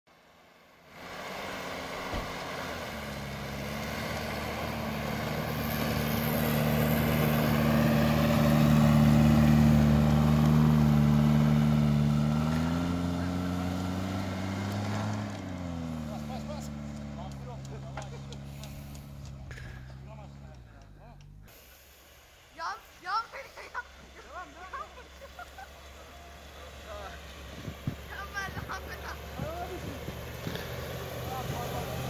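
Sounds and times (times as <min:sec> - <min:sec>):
car engine driving through snow: 0:00.1 - 0:21.8, 0:22.4 - 0:32.0.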